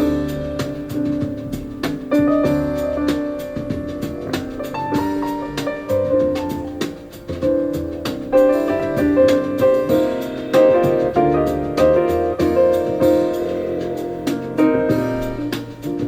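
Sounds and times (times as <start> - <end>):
low bass notes: 0.0 - 16.0
piano music through speaker: 0.0 - 16.0.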